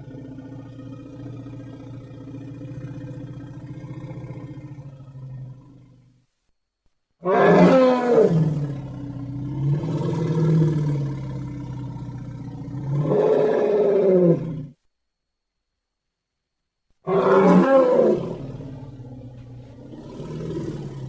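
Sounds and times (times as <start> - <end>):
elephant roaring and rumbling: 0.0 - 6.1, 7.2 - 14.8, 17.1 - 21.0.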